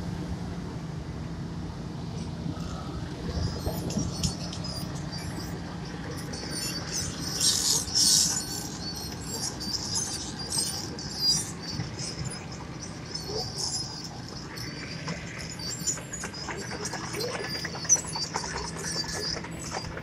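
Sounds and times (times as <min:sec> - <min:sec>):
milling machine engine drone: 0:00.0 - 0:20.0
high-pitched squeaks and crackles: 0:03.3 - 0:20.0.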